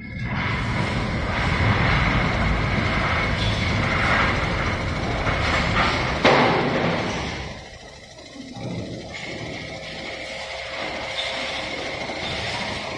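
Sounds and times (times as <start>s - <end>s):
sewing machine stitching clatter: 0.5s - 12.9s.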